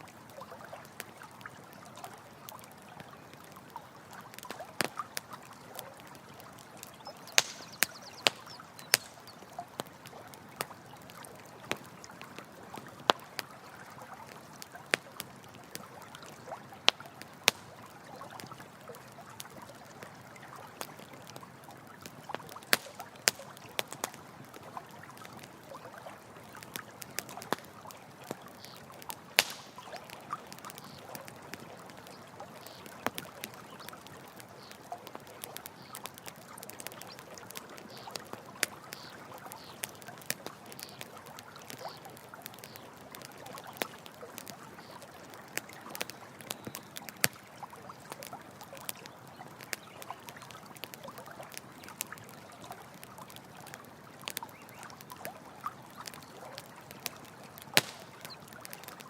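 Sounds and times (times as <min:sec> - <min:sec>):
campfire crackling and popping: 0:00.0 - 0:59.0
running water: 0:00.0 - 0:59.0.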